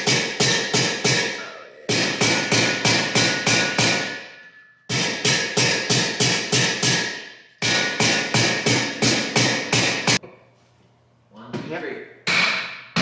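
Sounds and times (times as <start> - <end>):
rubber mallet hammering on metal: 0.0 - 10.2, 12.2 - 13.0.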